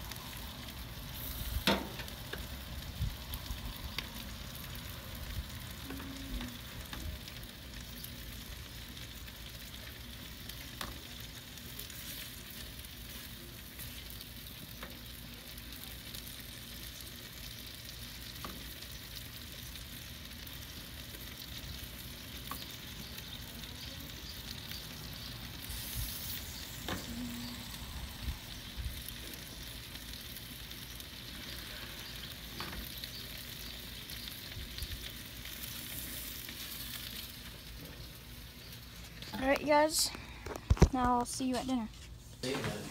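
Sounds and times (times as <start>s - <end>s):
food sizzling on a grill: 0.0s - 42.9s.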